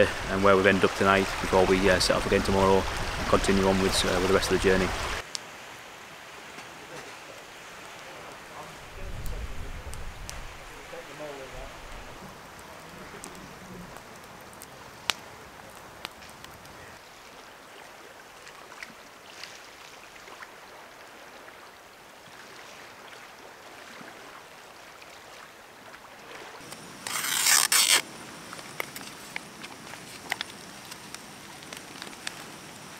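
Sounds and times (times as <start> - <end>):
water at shore: 0.0 - 32.9
wind: 0.0 - 32.9.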